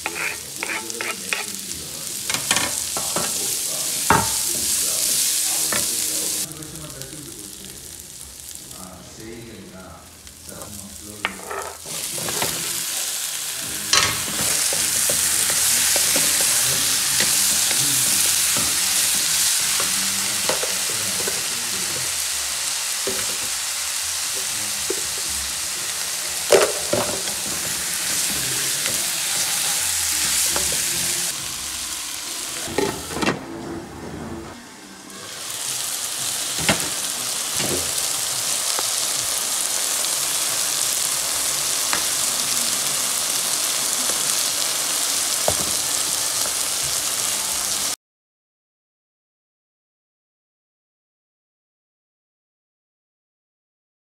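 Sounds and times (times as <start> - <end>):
chicken sizzling in hot oil: 0.0 - 33.3, 34.8 - 48.0.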